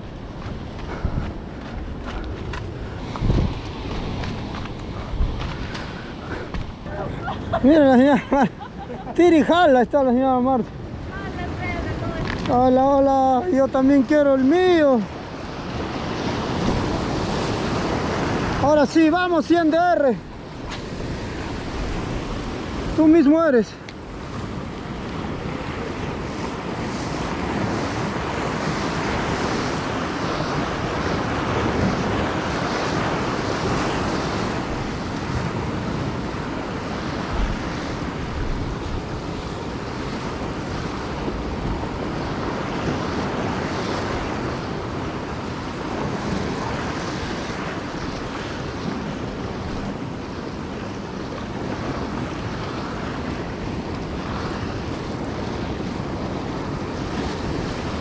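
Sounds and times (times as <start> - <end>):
wind buffeting microphone: 0.0 - 19.5, 20.2 - 58.0
sea surf washing in: 0.0 - 58.0.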